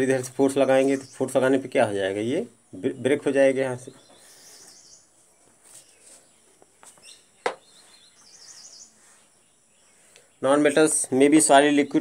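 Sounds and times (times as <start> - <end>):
faint bird chirps and warbling: 0.0 - 12.0.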